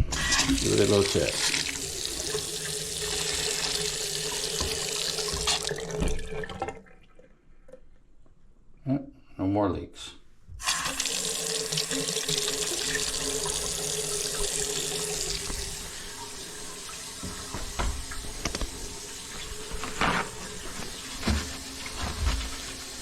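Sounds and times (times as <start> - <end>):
faucet water running into basin: 0.0 - 7.3, 10.6 - 23.0.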